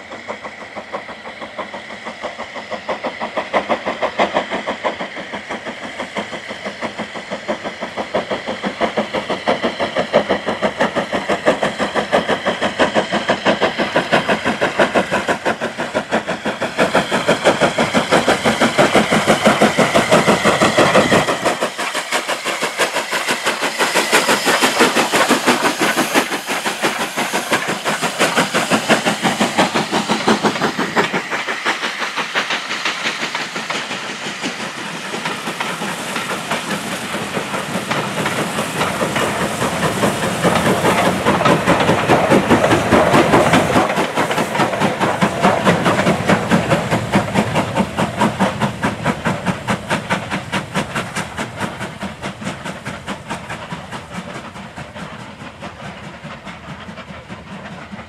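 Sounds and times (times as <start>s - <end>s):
steam locomotive exhaust beating: 0.0s - 58.0s.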